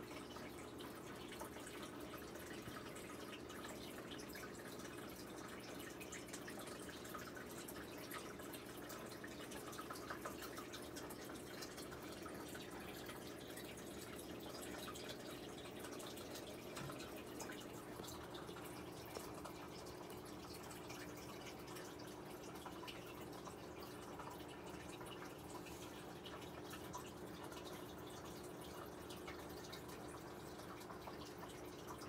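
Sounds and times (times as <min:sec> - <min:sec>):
water trickling and dripping: 0:00.0 - 0:32.0.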